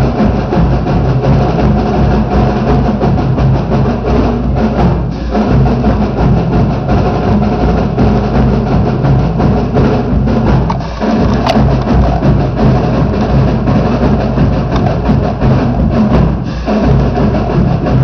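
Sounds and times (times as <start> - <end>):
band sustained low notes: 0.0 - 16.4
drum and percussion strikes: 0.0 - 18.0.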